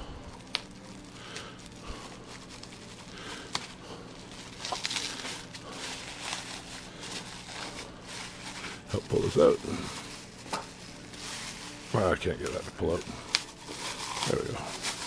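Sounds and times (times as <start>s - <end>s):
packing material rustling: 0.0s - 15.0s
steady low hum: 0.0s - 15.0s.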